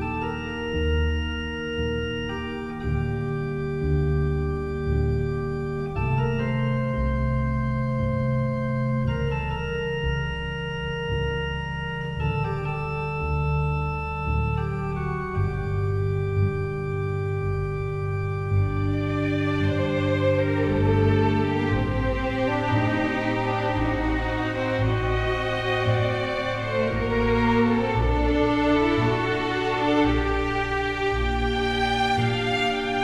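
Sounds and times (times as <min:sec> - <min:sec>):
held organ chords: 0:00.0 - 0:33.0
pulsing low bass line: 0:00.0 - 0:33.0.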